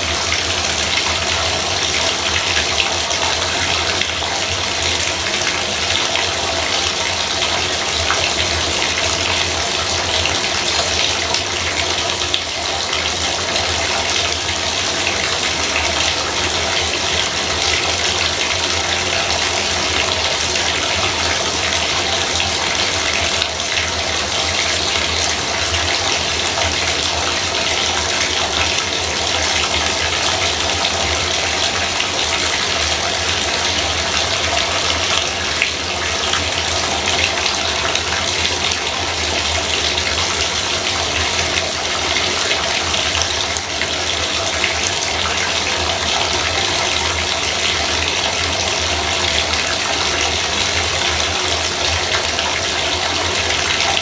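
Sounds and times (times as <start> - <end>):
water pouring into bathtub: 0.0 - 54.0.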